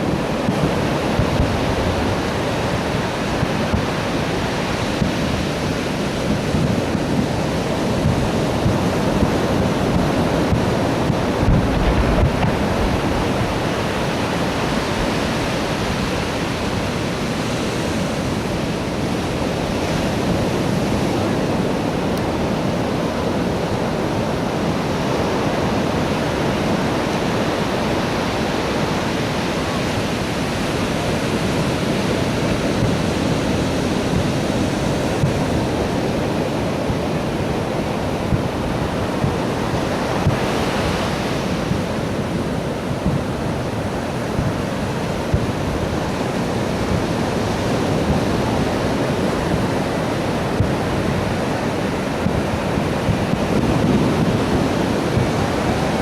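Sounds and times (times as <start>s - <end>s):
surf rushing: 0.0s - 56.0s
wind on microphone: 0.0s - 56.0s.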